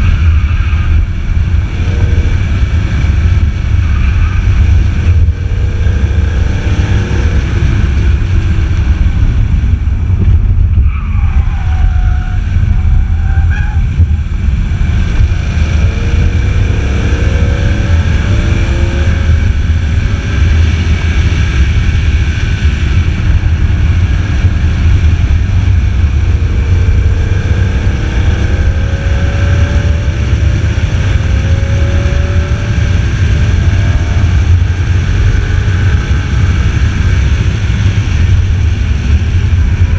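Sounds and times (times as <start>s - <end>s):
car engine revving: 0.0s - 39.9s
wind rumble on microphone: 0.0s - 39.9s.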